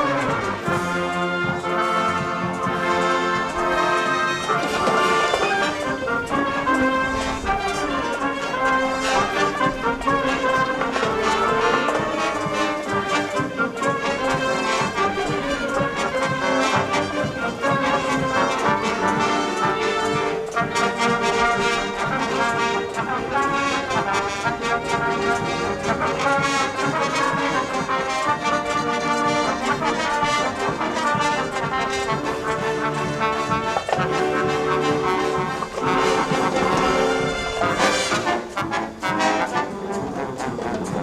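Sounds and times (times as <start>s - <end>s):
brass instruments: 0.0s - 41.0s
wind band playing: 0.0s - 41.0s.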